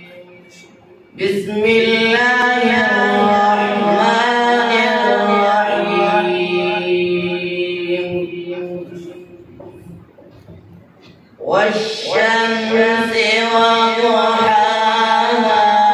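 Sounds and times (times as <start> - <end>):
man chanting a recitation: 0.0 - 10.6, 11.4 - 15.9.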